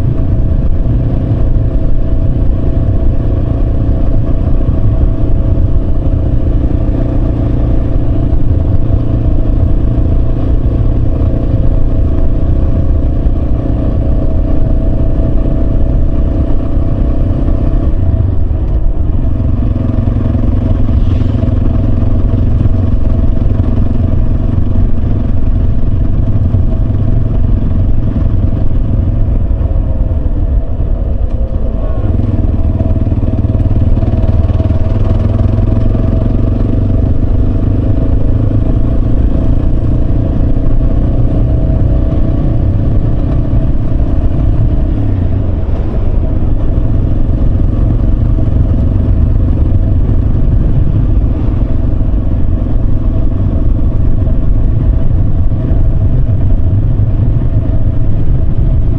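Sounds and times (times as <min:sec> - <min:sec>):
heavy low rumble: 0:00.0 - 0:58.9
motorcycle engine running: 0:00.0 - 0:58.9.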